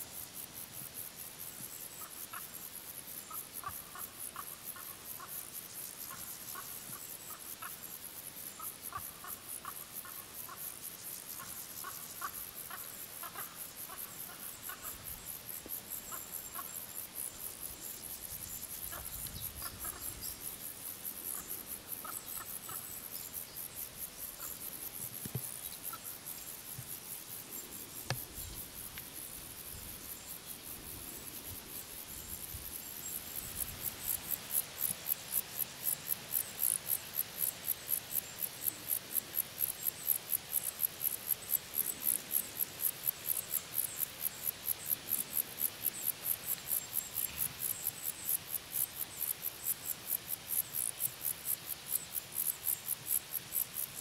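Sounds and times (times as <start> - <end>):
insect chirping: 0.0 - 54.0.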